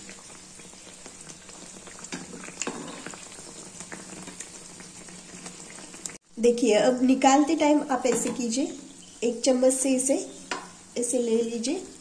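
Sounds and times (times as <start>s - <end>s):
batter sizzling in hot oil: 0.0s - 12.0s.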